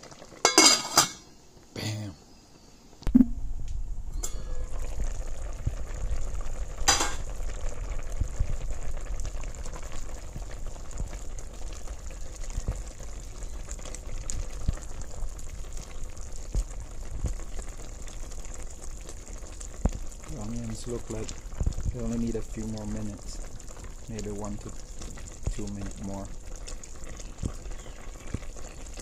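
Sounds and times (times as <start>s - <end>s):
soup boiling in pot: 0.0s - 29.0s.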